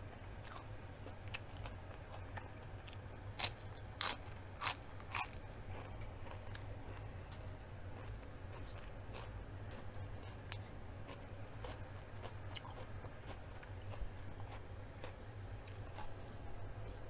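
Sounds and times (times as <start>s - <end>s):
crisp food crunching: 0.4s - 17.0s.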